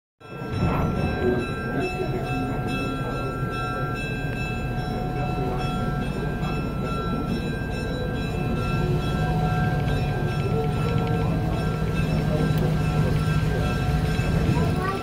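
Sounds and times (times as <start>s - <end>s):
train rumble: 0.2s - 15.0s.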